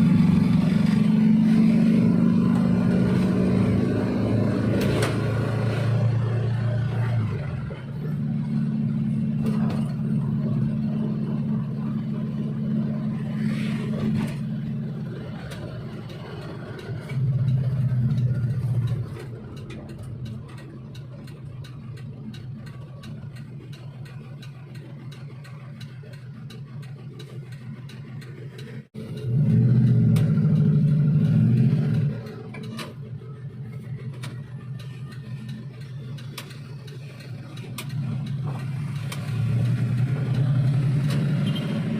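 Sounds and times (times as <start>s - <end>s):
van engine revving: 0.0s - 41.9s.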